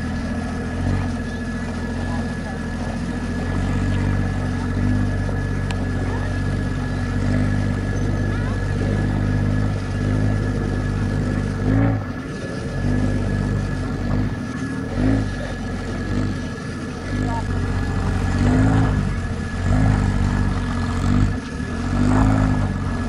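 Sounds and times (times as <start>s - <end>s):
truck engine pulling under load: 0.0s - 23.0s.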